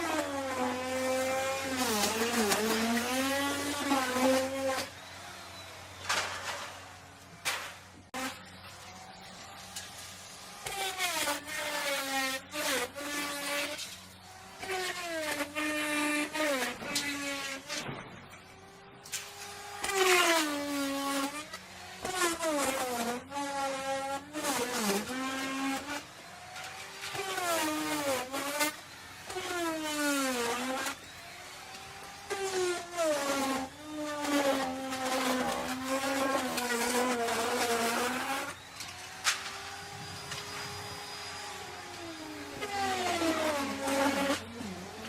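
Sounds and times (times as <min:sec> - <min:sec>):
wood router cutting wood: 0:00.0 - 0:45.0.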